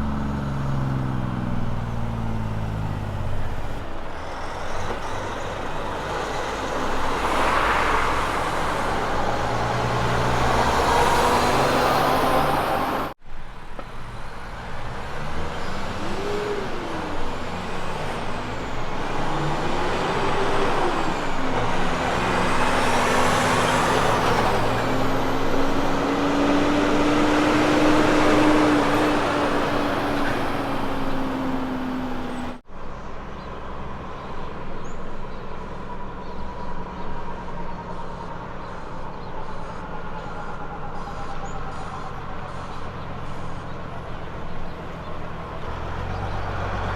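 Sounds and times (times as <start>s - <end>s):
truck diesel engine pulling hard: 0.0s - 46.9s.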